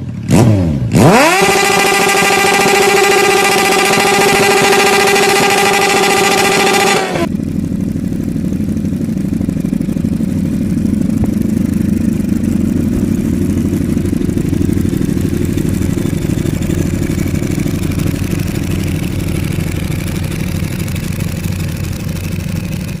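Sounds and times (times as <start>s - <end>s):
high-pitched engine note: 1.0s - 23.0s
motorcycle engine idling: 1.0s - 23.0s.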